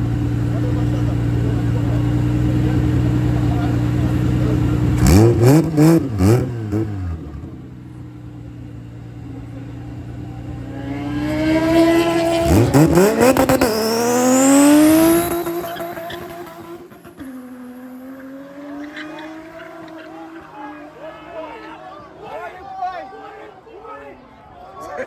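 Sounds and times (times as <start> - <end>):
drag car engines revving: 0.0 - 22.5.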